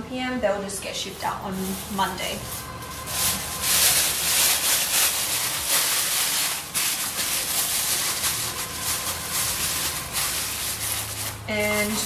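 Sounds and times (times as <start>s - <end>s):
tissue paper rustling: 0.8s - 12.0s.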